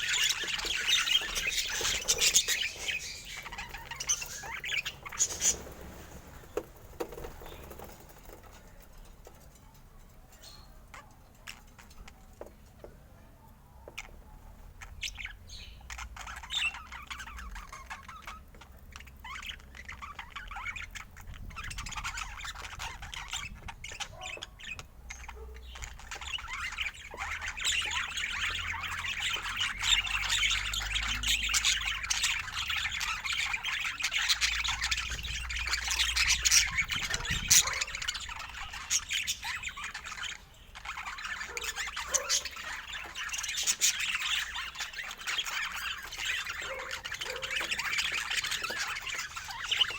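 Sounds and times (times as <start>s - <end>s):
birds chattering and squawking: 0.0s - 49.9s.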